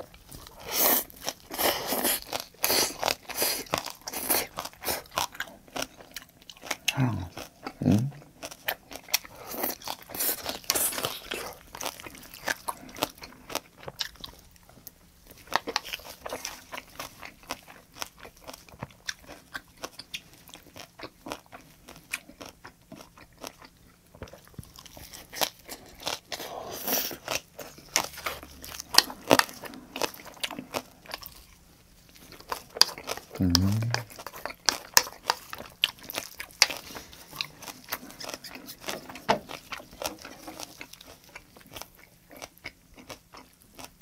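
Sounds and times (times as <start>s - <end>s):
chewing and crunching: 0.0s - 44.0s.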